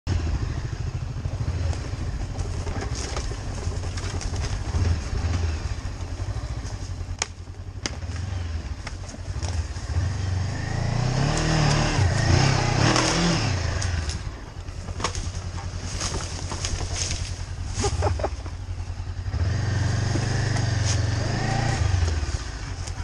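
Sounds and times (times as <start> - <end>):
motorcycle engine chugging: 0.1 - 23.0.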